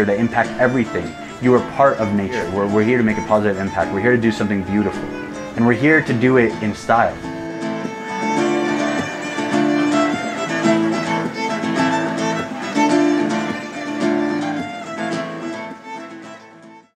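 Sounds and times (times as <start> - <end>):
acoustic guitar picking: 0.0 - 16.8
violin: 0.0 - 17.0.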